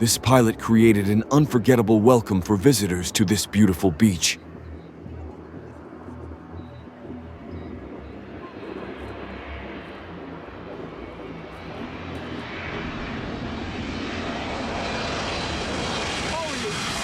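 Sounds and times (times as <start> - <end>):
airplane engines landing approach: 0.0 - 17.0.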